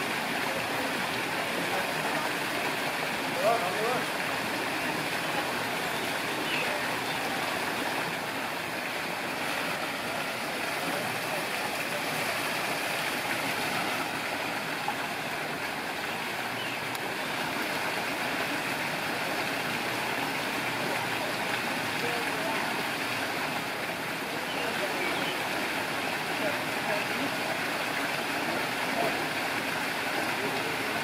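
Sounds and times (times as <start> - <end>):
waterfall splashing into pool: 0.0 - 31.0.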